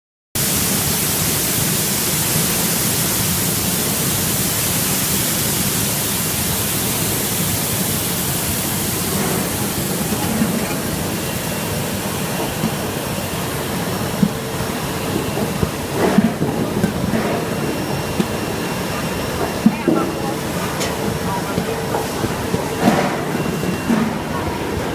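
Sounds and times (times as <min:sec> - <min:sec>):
water spraying hiss: 0:00.4 - 0:24.8
washing machine running: 0:00.4 - 0:24.9.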